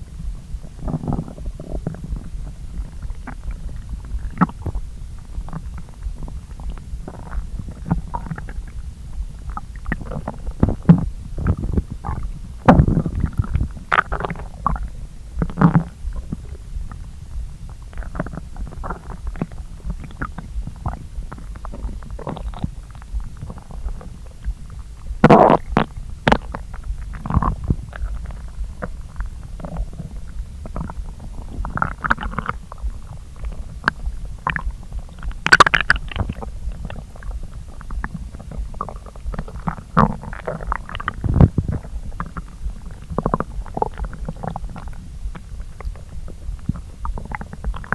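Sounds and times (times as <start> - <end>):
stomach gurgling: 0.0 - 47.9.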